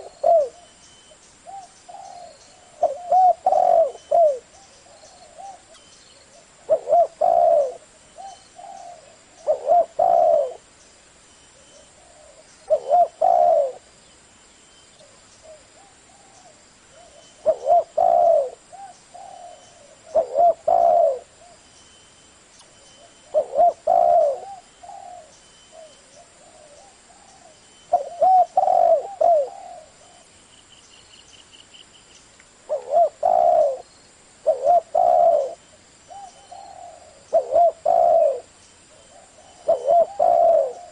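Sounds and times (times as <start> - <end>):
dove cooing: 0.0 - 10.7, 11.6 - 14.0, 15.0 - 21.6, 22.9 - 30.3, 32.7 - 40.9.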